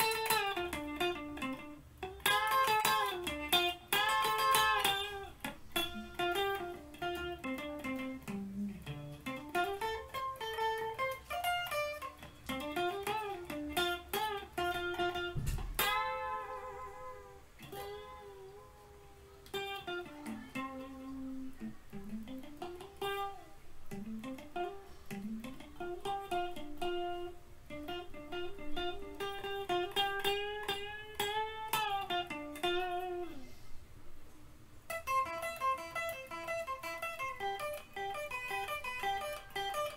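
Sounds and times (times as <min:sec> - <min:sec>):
electric guitar solo: 0:00.0 - 0:33.6, 0:34.9 - 0:39.9.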